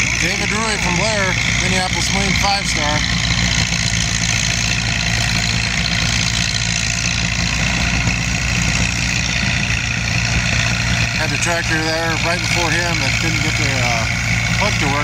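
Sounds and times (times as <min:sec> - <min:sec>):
tractor engine under load: 0:00.0 - 0:15.0.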